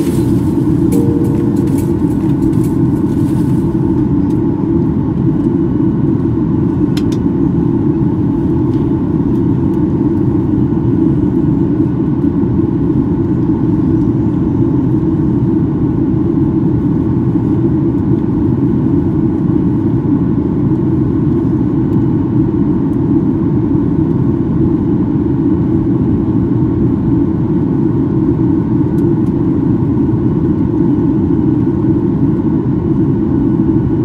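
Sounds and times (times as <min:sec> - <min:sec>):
aircraft engine noise: 0:00.0 - 0:34.0.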